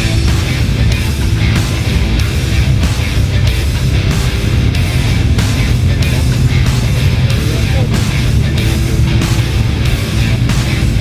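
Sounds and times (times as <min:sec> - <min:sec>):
heavy metal music: 0:00.0 - 0:11.0.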